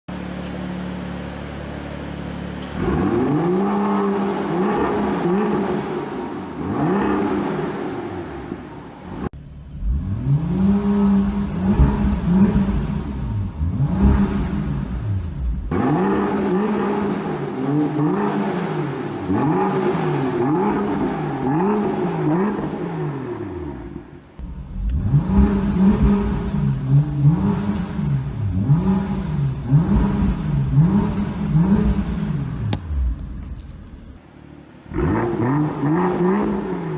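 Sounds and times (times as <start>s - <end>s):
car engine revving in blips: 2.6s - 34.2s, 34.8s - 36.9s.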